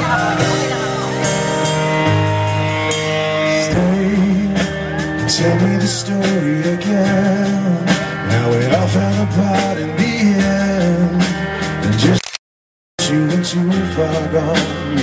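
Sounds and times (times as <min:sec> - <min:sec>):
live rock band playing: 0:00.0 - 0:12.2, 0:13.0 - 0:15.0.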